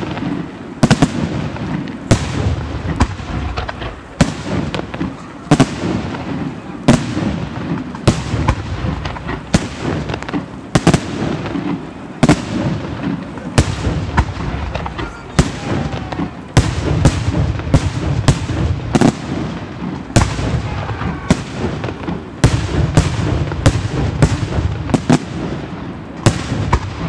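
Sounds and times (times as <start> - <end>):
firework shells bursting: 0.0 - 27.0
low rumble of echoing detonations: 0.0 - 27.0.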